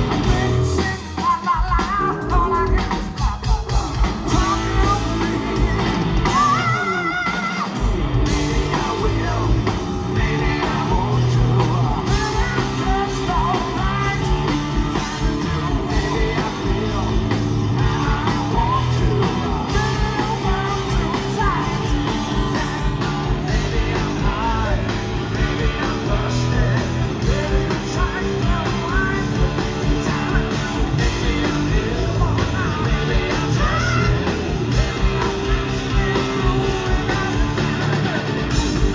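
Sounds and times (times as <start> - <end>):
electric bass: 0.0 - 1.1, 1.8 - 38.9
drum kit: 0.0 - 38.9
electric guitar: 0.0 - 38.9
person singing lead vocal: 0.0 - 38.9.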